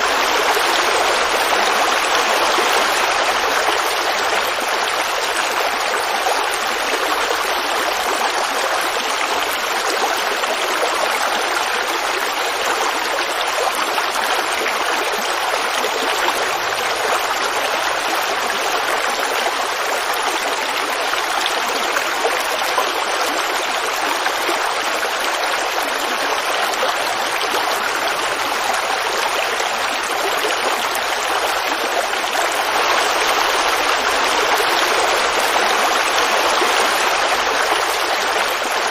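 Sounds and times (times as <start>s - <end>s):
creek babbling over rocks: 0.0s - 38.9s.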